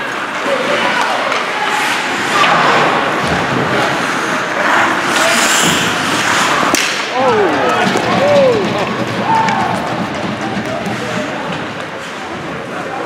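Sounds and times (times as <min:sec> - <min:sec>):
spectator chatter and crowd noise: 0:00.0 - 0:13.0.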